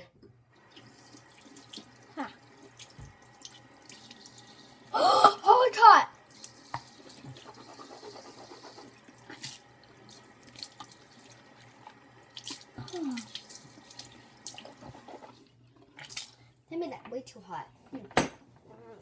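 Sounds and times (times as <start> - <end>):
sink tap running: 0.5 - 16.3.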